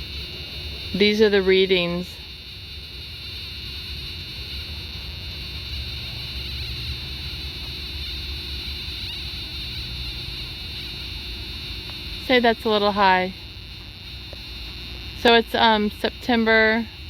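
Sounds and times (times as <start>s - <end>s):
steady electronic buzz: 0.0s - 17.0s.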